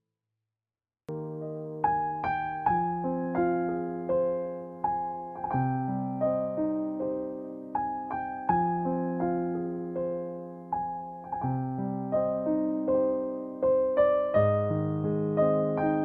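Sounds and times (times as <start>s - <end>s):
piano playing slow chords: 1.1s - 16.0s.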